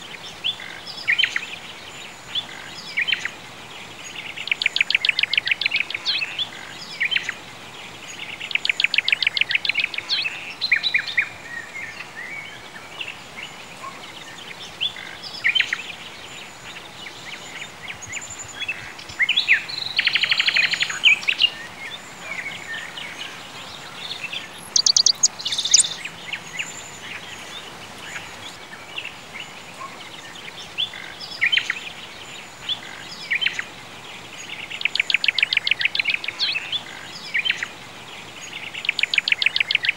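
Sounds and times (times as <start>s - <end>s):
birds chirping trills: 0.0s - 39.9s
faint steady hiss: 0.0s - 39.9s.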